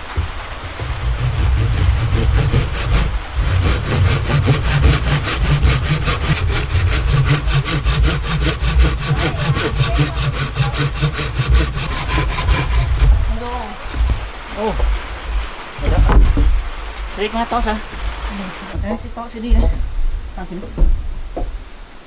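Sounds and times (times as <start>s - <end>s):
hand saw cutting wood: 0.0s - 19.7s.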